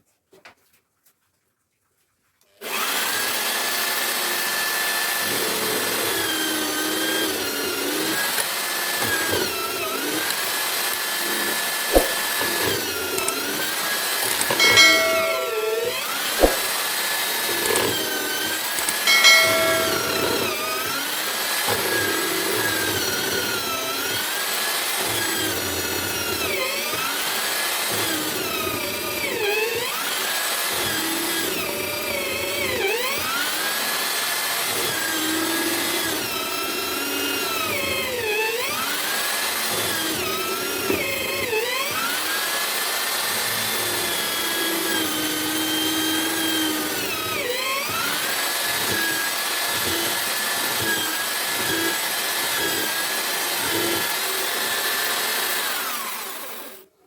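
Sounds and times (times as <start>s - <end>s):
drill motor whine cutting wood: 2.6s - 56.9s.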